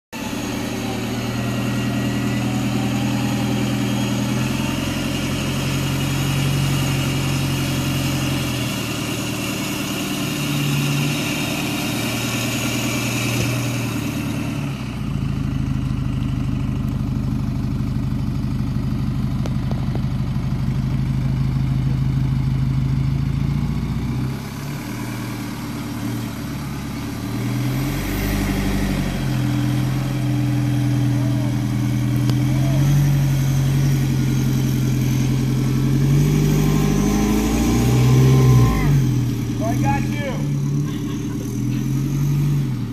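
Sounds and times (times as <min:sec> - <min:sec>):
truck engine at low revs: 0:00.1 - 0:42.9.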